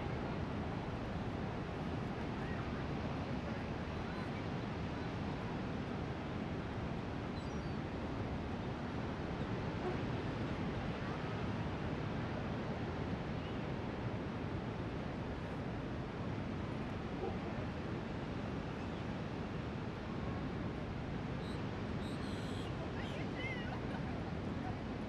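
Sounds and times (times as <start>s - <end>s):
wind: 0.0s - 25.0s.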